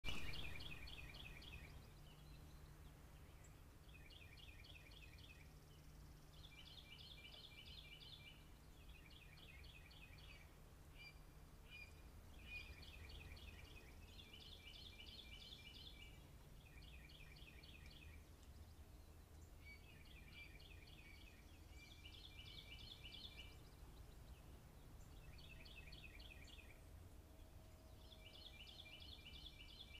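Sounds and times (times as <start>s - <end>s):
low steady rumble: 0.0s - 30.0s
songbird singing: 0.0s - 30.0s.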